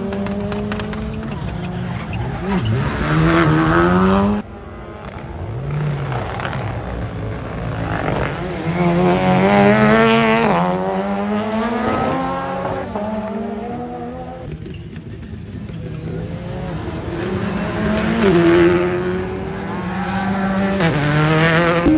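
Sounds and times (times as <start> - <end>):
rally car engine accelerating: 0.0 - 14.8, 15.6 - 21.9.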